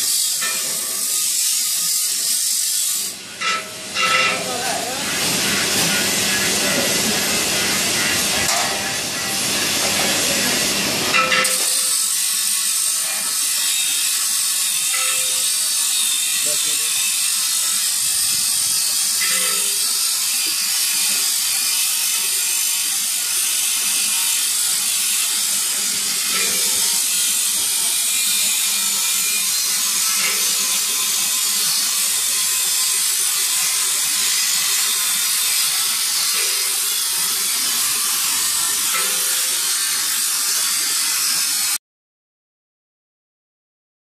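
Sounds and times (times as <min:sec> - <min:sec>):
workshop machinery hissing: 0:00.0 - 0:41.8.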